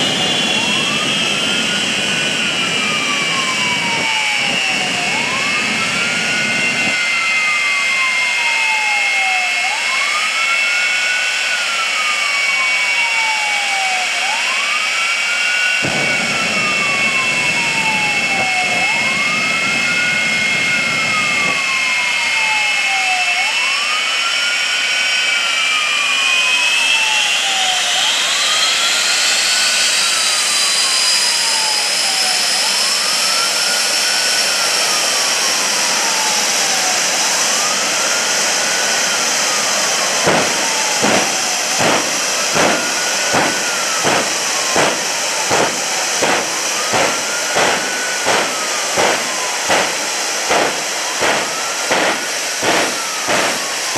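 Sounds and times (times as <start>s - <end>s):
jet engines whining: 0.0s - 53.9s
siren wailing: 0.0s - 53.9s.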